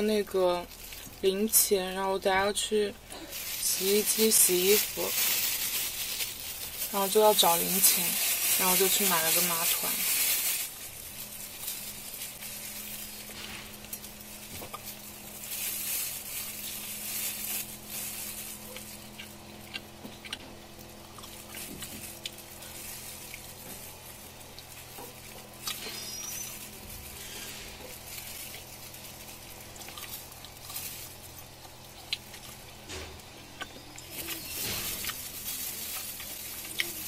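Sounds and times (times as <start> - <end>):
low electrical hum: 0.0 - 37.0
food being chewed and crunched: 3.1 - 37.0
small crackles and clicks: 3.2 - 37.0.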